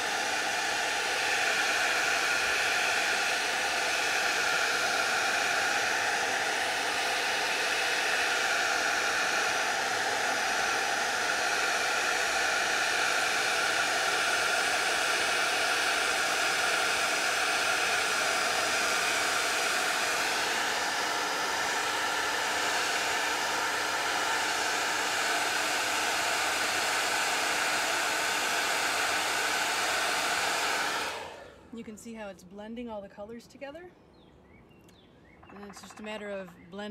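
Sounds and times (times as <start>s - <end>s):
hair dryer blowing air: 0.0s - 31.8s.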